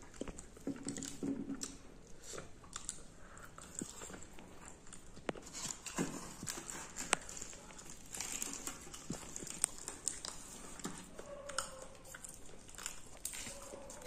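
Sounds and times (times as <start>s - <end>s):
fried bread crackling: 0.0s - 14.0s.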